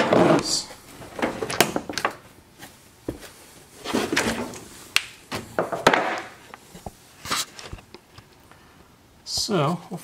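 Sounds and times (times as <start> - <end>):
rustling and scraping: 0.0 - 8.4.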